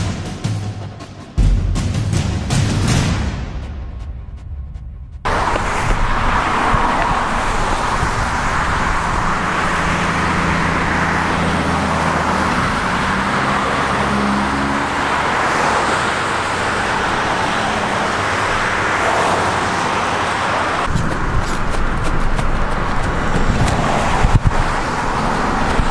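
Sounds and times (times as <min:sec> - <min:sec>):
road traffic noise: 0:00.0 - 0:25.9
vehicle engine hum: 0:03.5 - 0:25.9.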